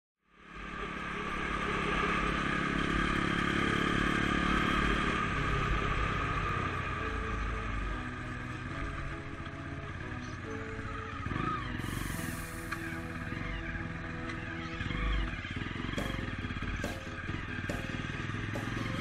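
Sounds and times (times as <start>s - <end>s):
dirt bike engine running: 0.6s - 19.0s.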